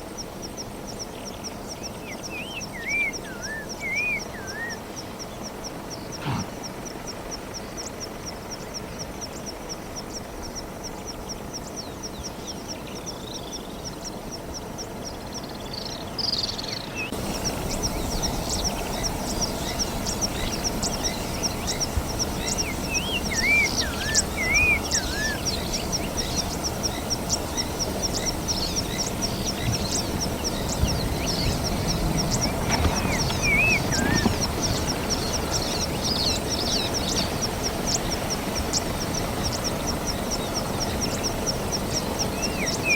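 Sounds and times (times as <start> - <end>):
bird calls: 1.2 - 42.9.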